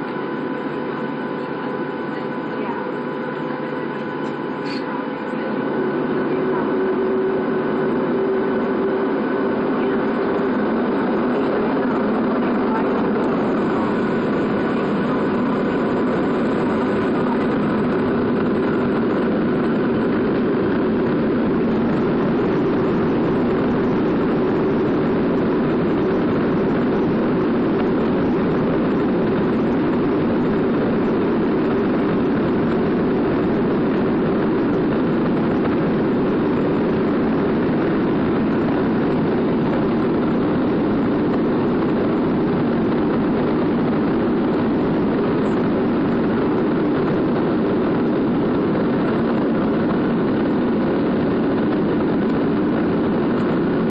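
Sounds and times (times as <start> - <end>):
jet engines cabin hum: 0.0 - 53.9.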